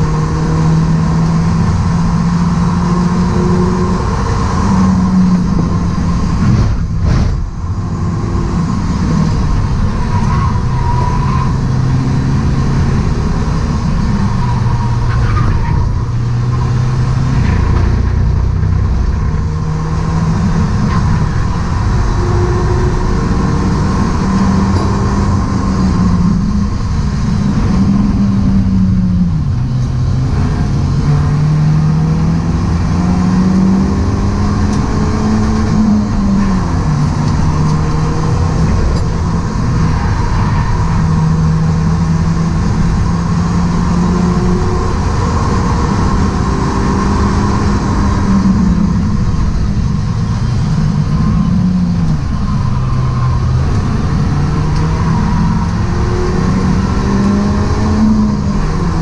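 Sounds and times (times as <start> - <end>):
car engine accelerating: 0.0 - 59.0
steady rushing noise: 0.0 - 59.0.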